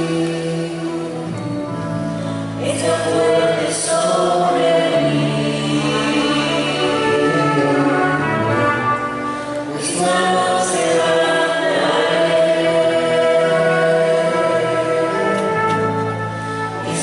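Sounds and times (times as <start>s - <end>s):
congregation singing a hymn: 0.0s - 1.5s, 2.6s - 17.0s.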